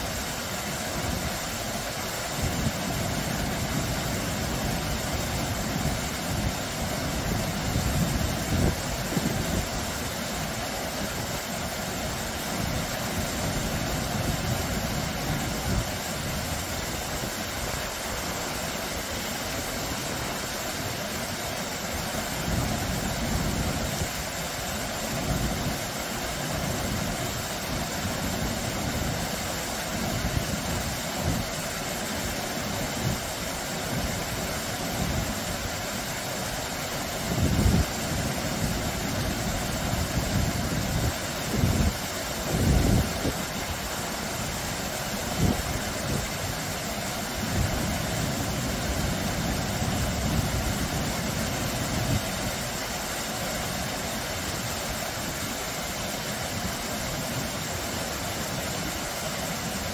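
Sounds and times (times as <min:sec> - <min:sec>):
small waterfall splashing over rocks: 0:00.0 - 0:59.9.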